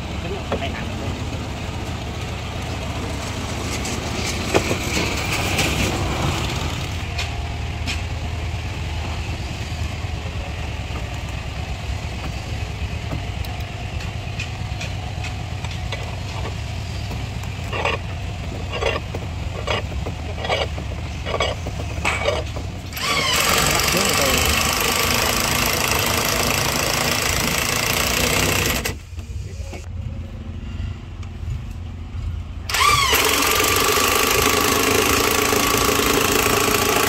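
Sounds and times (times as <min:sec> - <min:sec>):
engine idling: 0:00.0 - 0:30.2, 0:32.6 - 0:37.0.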